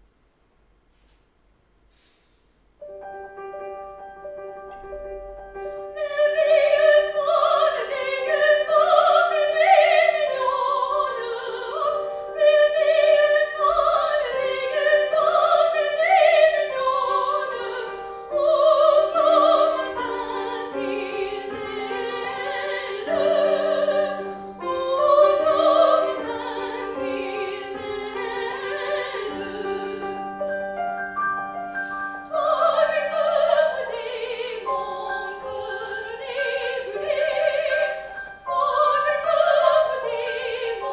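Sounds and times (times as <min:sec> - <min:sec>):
piano accompaniment: 0:02.8 - 0:40.9.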